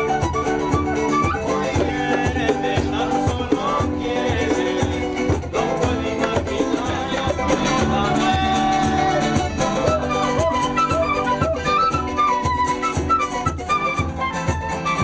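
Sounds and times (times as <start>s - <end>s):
acoustic guitar: 0.0s - 15.0s
bongos keeping a steady beat: 0.0s - 15.0s
small strummed stringed instrument: 0.0s - 15.0s.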